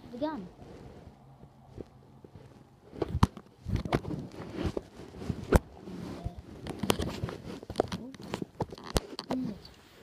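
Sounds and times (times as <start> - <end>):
bedding rustling: 0.0 - 10.0.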